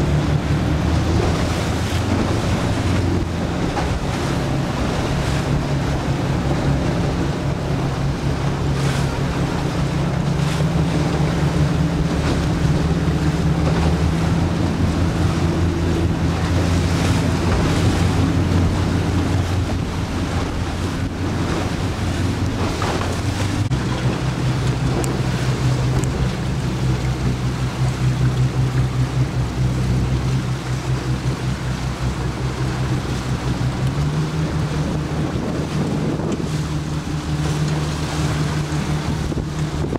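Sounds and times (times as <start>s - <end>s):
water washing against boat: 0.0s - 39.9s
wind buffeting microphone: 0.0s - 39.9s.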